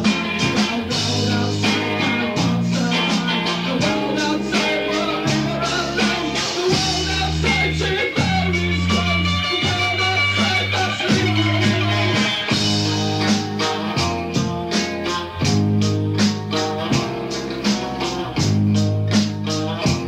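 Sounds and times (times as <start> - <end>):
bass notes: 0.0 - 20.0
drums keeping a steady beat: 0.0 - 20.0
electric guitar: 0.0 - 20.0.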